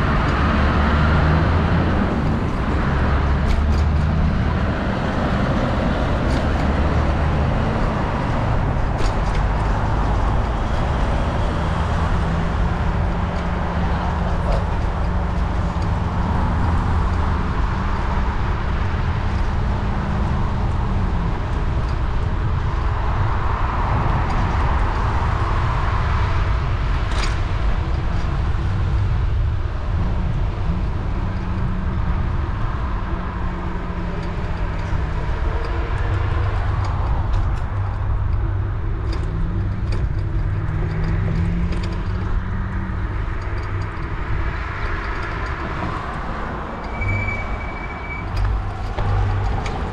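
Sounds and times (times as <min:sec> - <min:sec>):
passing vehicles humming: 0:00.0 - 0:49.9.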